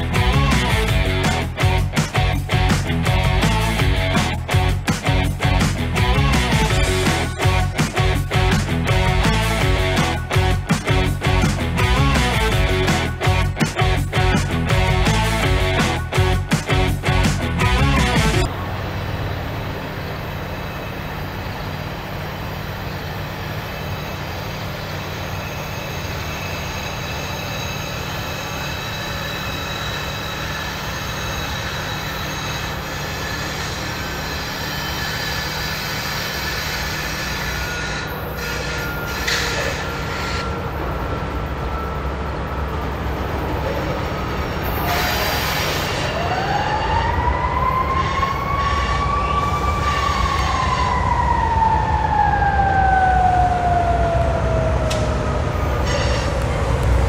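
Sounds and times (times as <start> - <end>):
diesel locomotive engines running: 0.0 - 57.0
emergency vehicle siren wailing: 6.0 - 57.0.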